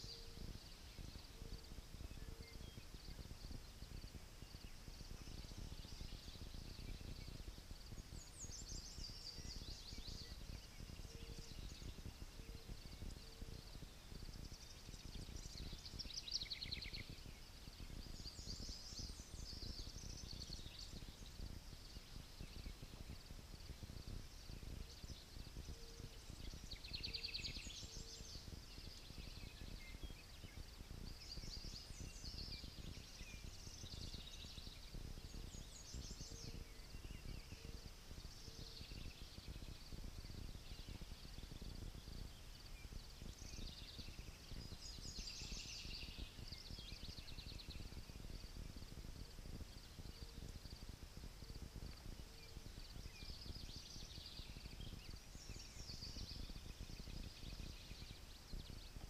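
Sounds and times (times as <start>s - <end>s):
low rumble of wind: 0.0s - 59.0s
songbirds trilling and chirping: 0.0s - 59.0s.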